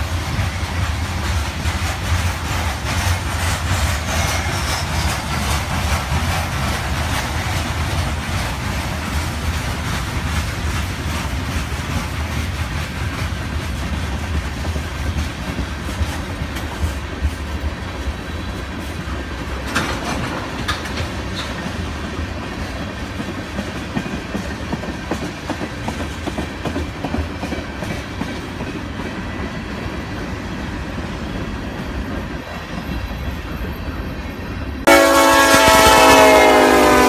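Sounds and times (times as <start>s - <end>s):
wheels clicking over rail joints: 0.0s - 33.8s
train wheels rumbling on rails: 0.0s - 37.0s.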